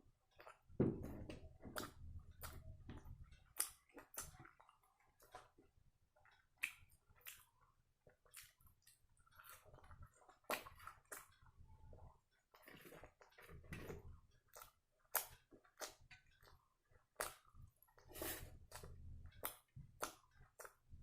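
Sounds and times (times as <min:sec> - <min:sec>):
person chewing food: 0:00.3 - 0:21.0.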